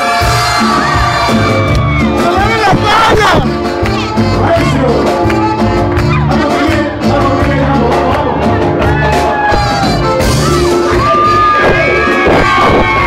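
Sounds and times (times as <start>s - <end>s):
conga drums: 0.0s - 13.0s
live band music: 0.0s - 13.0s.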